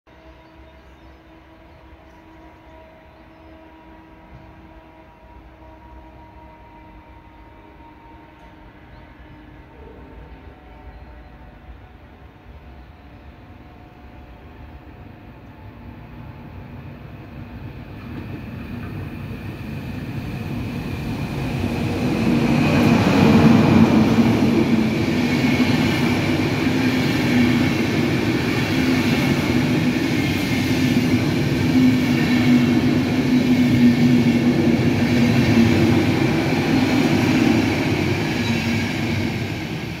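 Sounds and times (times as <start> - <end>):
train wheels rumbling on rail: 0.2 - 40.0.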